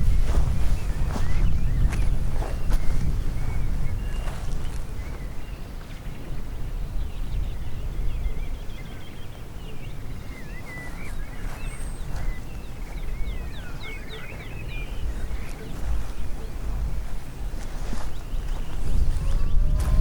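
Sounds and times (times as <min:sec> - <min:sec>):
songbirds chirping and warbling: 0:00.0 - 0:20.0
wind rumble on microphone: 0:00.0 - 0:20.0.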